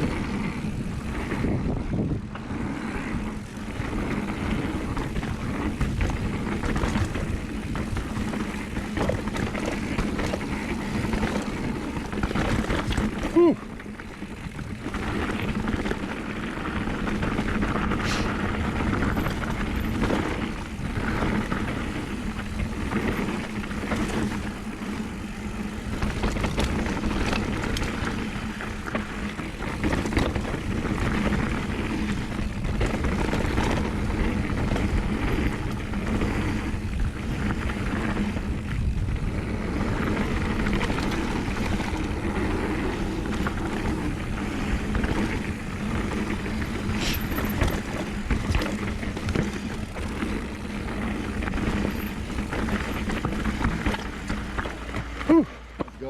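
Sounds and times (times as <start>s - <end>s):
bike rattling over bumps: 0.0s - 56.0s
bike tyres rolling on dirt: 0.0s - 56.0s.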